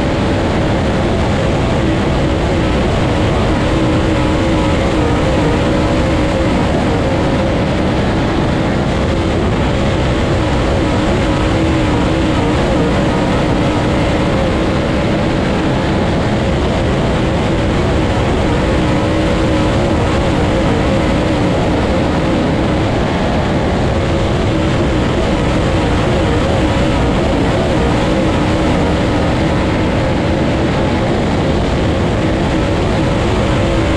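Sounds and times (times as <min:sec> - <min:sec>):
race car engine running hard: 0:00.0 - 0:33.9.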